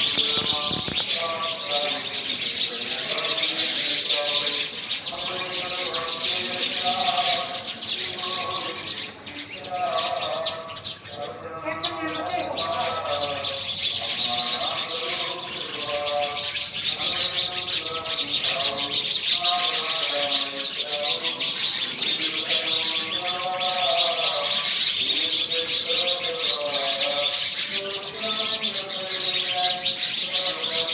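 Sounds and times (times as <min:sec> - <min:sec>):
person chanting scripture: 0:00.0 - 0:30.9
sparrows chirping: 0:00.0 - 0:30.9.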